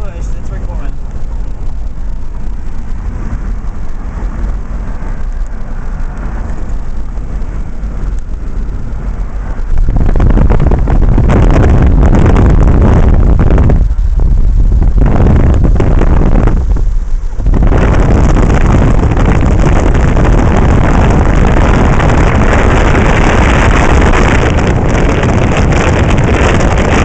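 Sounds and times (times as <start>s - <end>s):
car road rumble from inside: 0.0s - 27.0s
wind rushing: 0.0s - 27.0s.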